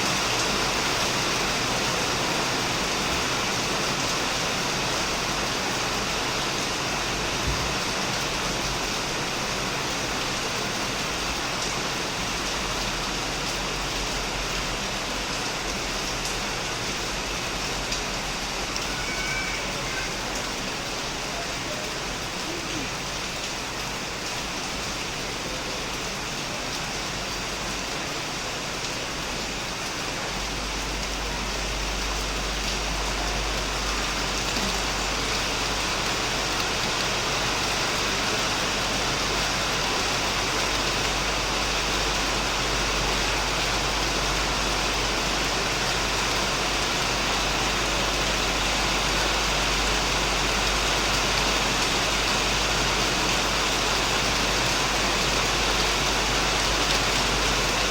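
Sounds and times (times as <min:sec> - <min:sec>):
heavy rain on a shed: 0:00.0 - 0:57.9.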